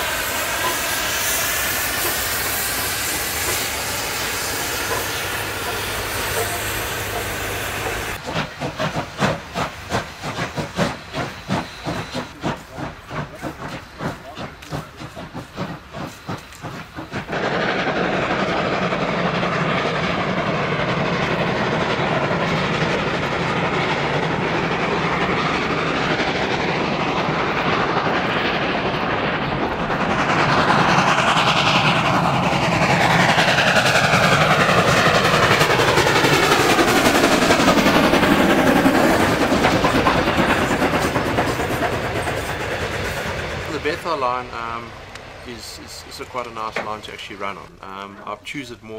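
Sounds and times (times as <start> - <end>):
rush of exhaust and steam: 0.0 - 48.9
steam locomotive exhaust chuffs: 0.0 - 48.9.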